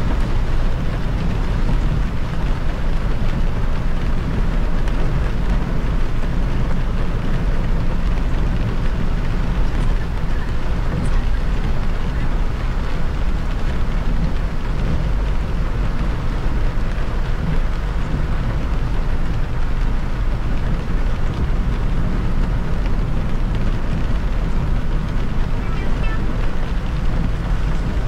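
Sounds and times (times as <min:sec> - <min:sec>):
road and engine rumble: 0:00.0 - 0:28.0.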